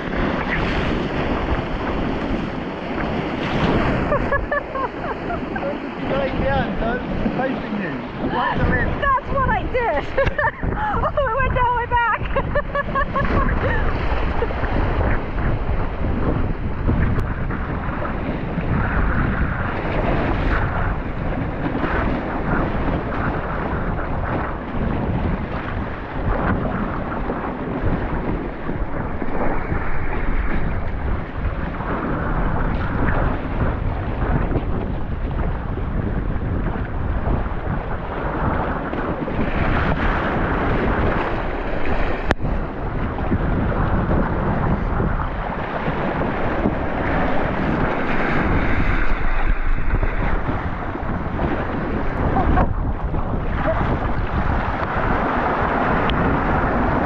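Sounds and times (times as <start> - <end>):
water splashing against hull: 0.0 - 57.0
wind buffeting microphone: 0.0 - 57.0.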